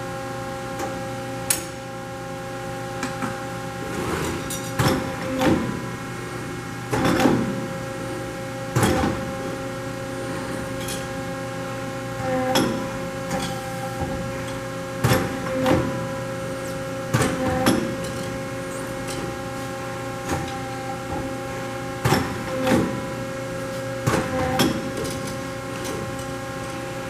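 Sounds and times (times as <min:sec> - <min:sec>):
machine hum with pitched tones: 0:00.0 - 0:27.0.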